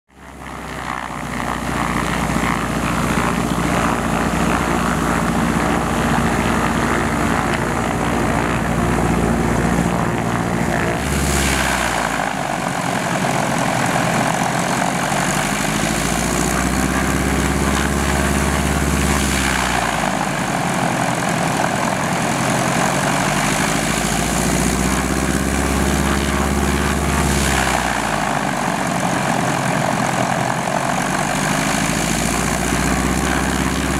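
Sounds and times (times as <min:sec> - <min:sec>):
propeller aircraft engine running: 0:00.1 - 0:33.9.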